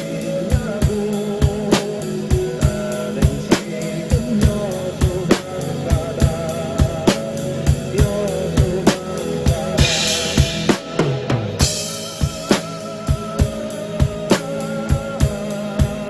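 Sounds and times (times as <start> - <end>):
drum kit kick and snare beat: 0.0 - 16.0.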